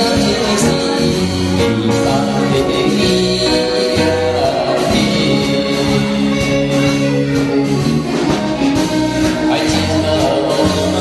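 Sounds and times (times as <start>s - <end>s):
bass line: 0.0s - 11.0s
man singing: 0.0s - 11.0s.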